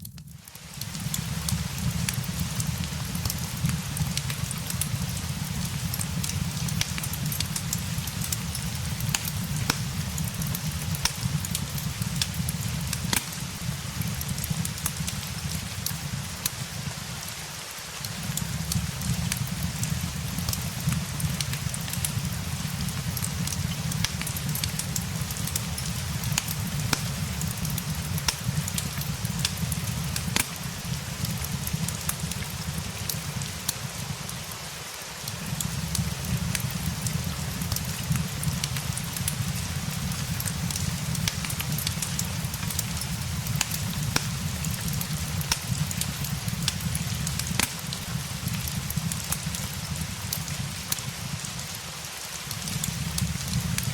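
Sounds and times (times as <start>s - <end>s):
fireplace crackling and popping: 0.0s - 53.9s
steady rain: 0.0s - 53.9s.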